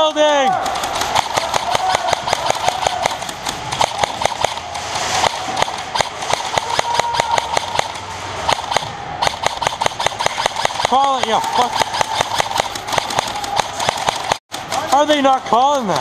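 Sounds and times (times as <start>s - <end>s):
airsoft guns firing: 0.3s - 15.8s
bbs hitting: 0.5s - 14.7s.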